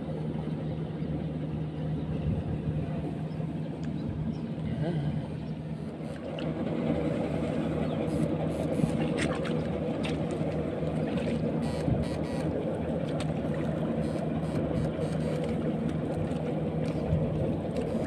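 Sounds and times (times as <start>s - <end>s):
constant rushing noise: 0.0s - 18.0s
low mechanical hum: 0.0s - 18.0s.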